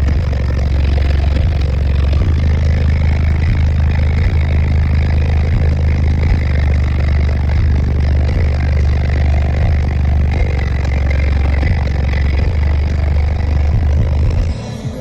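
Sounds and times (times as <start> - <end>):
deep bass from car subwoofers: 0.0 - 15.0.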